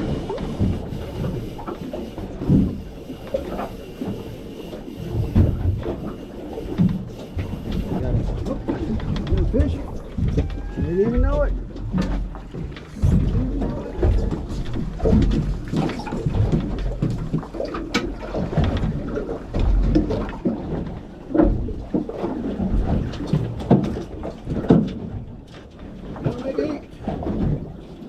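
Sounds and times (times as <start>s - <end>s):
water around a boat: 0.0s - 28.0s
wind: 0.0s - 28.0s.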